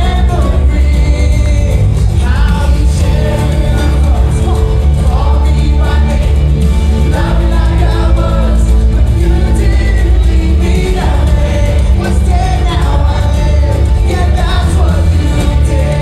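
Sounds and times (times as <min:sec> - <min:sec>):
gospel band with heavy bass: 0:00.0 - 0:16.0
voices singing together: 0:00.0 - 0:16.0.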